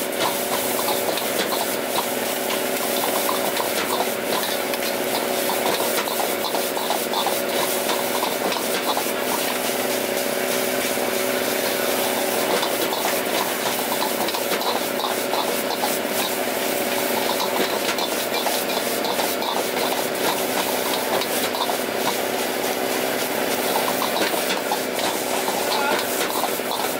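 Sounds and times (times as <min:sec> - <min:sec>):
gas burner hissing hum: 0:00.0 - 0:26.9.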